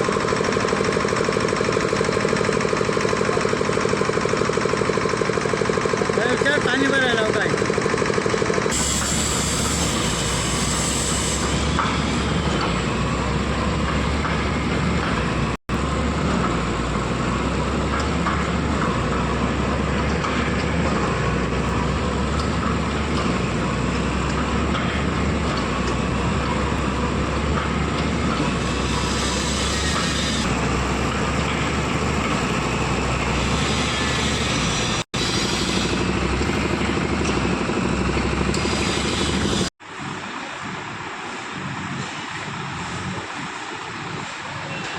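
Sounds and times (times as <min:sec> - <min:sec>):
heavy machinery engine drone: 0:00.0 - 0:44.9.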